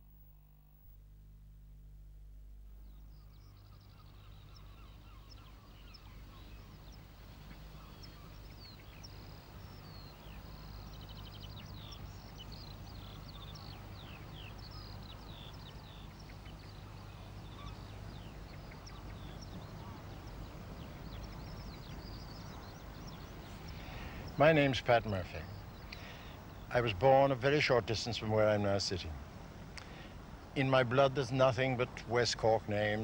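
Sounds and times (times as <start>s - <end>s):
steady low hum: 0.0s - 33.0s
birds chirping: 2.8s - 33.0s.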